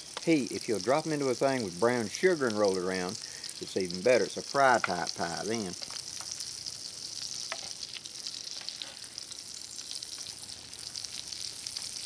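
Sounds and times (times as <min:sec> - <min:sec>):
pie sizzling in a skillet: 0:00.0 - 0:12.0.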